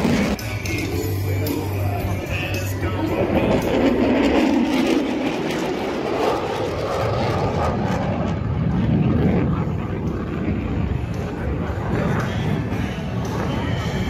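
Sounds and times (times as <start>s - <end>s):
jet flying past: 1.9s - 14.0s.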